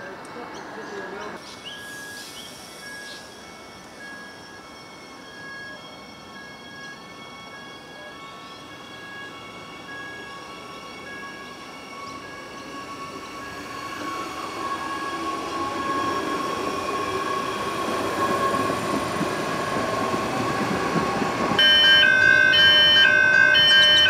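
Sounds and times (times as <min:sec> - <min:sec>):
train wheel rumble: 0:00.0 - 0:24.0
electric train motor whine: 0:01.7 - 0:24.0.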